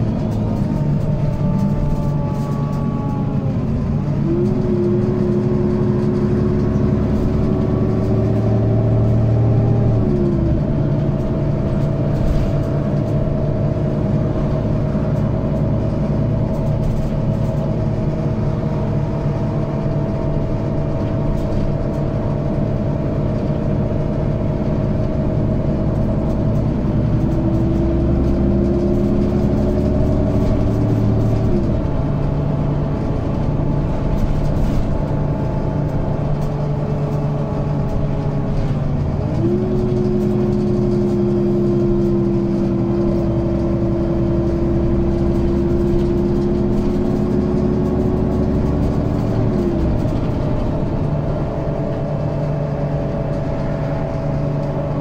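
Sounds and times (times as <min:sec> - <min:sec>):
bus diesel engine: 0:00.0 - 0:55.0
constant whine: 0:00.0 - 0:55.0.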